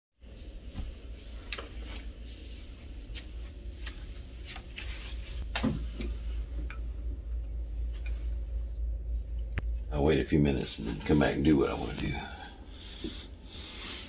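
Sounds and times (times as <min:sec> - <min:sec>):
steady low hum: 0:00.2 - 0:14.0.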